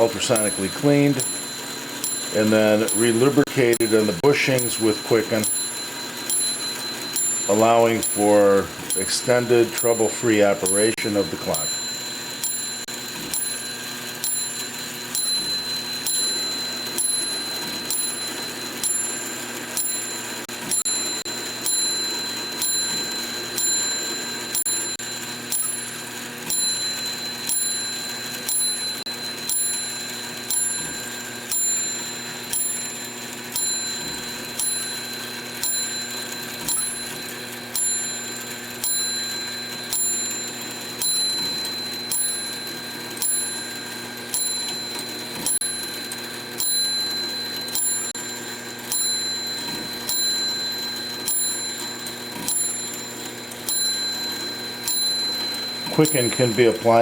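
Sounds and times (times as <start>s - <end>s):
clock clicks: 0.0s - 57.0s
clock gear train whirring: 0.0s - 57.0s.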